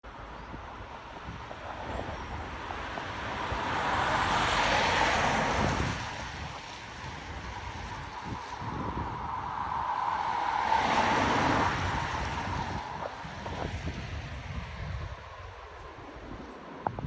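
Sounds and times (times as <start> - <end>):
car tyre and road noise: 0.0 - 17.0.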